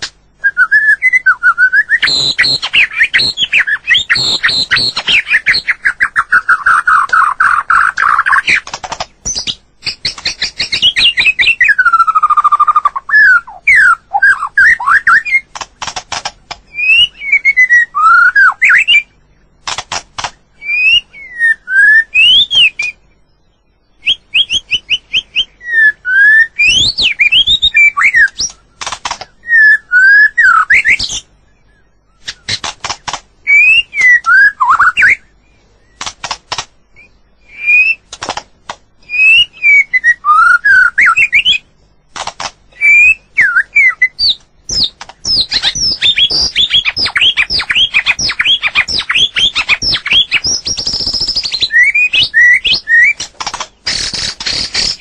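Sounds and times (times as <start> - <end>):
bird singing whistled notes: 0.4 - 8.6, 9.2 - 15.5, 16.7 - 19.5, 20.5 - 32.6, 33.4 - 36.0, 36.9 - 38.1, 39.0 - 41.9, 42.7 - 55.0
sharp bird clicks: 2.0 - 21.3, 26.6 - 29.4, 32.2 - 35.2, 35.8 - 55.0.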